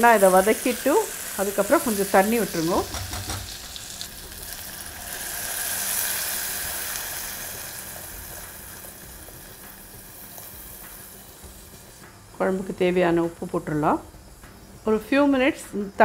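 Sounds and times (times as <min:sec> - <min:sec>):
water sizzling in hot oil: 0:00.0 - 0:13.0.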